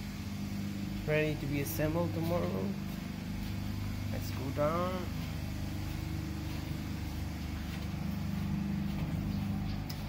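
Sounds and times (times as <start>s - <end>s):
engine-room machinery hum: 0.0s - 10.0s.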